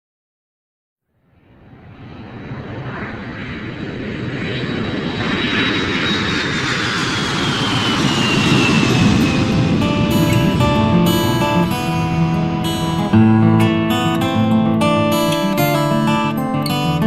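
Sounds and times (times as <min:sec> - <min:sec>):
high whine: 0:01.4 - 0:17.0
small aircraft motor: 0:01.9 - 0:17.0.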